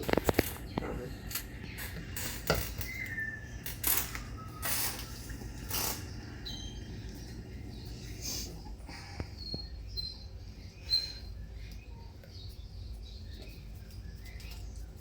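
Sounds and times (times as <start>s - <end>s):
chicks squeaking: 0.0s - 15.0s.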